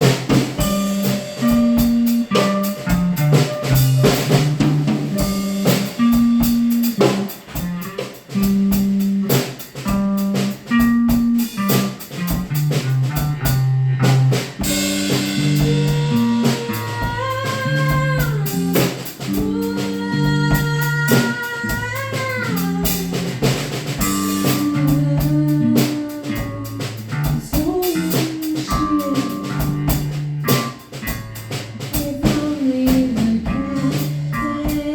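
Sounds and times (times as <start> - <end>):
drum kit: 0.0 - 34.9
lead guitar bending notes: 0.0 - 34.9
stepping bass line: 0.0 - 34.9.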